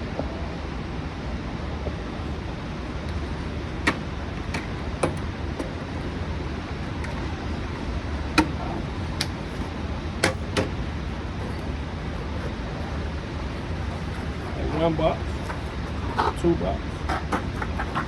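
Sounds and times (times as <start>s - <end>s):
low rumble of wind: 0.0s - 18.0s.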